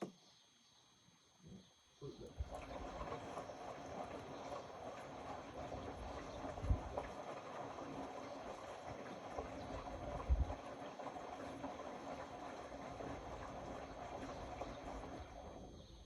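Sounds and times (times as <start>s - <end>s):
washing machine running: 2.3s - 16.0s.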